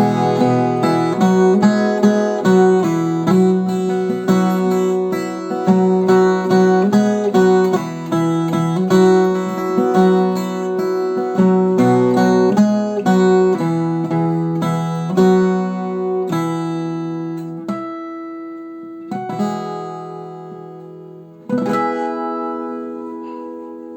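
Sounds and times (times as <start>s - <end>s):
guitar plucked melody and chords: 0.0s - 23.9s.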